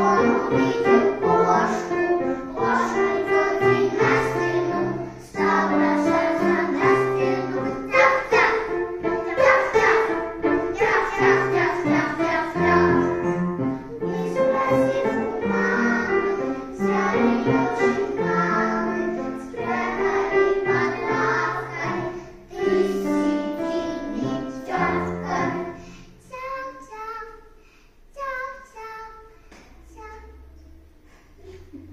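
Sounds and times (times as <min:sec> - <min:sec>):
children's choir singing: 0:00.0 - 0:27.3.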